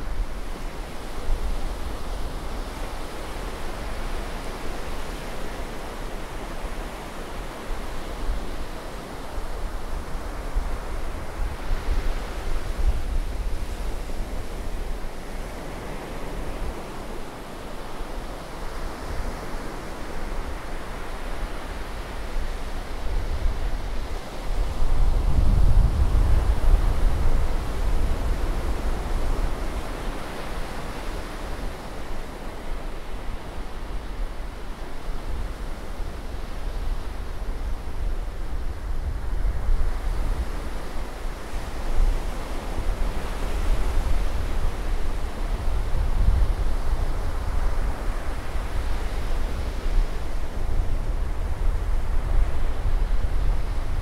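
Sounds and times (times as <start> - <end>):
waves washing on sandy beach: 0.0 - 54.0
wind rumble on microphone: 0.0 - 54.0.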